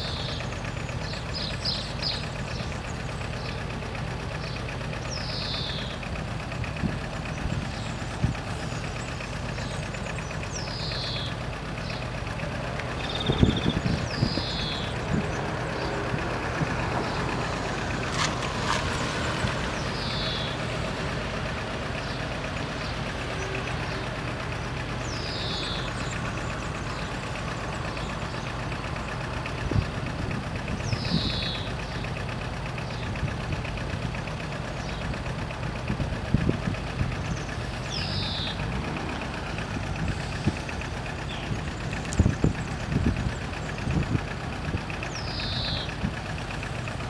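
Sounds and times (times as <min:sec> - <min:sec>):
low engine hum: 0:00.0 - 0:47.0.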